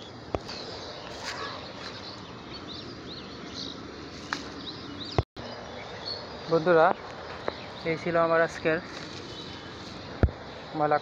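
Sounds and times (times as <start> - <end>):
small birds chirping: 0.0 - 11.0
steady outdoor hiss: 0.0 - 11.0.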